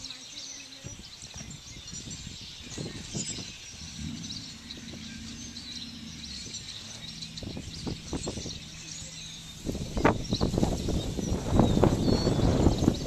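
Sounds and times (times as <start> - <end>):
small birds chirping: 0.0 - 13.0
steady low hum: 2.1 - 13.0.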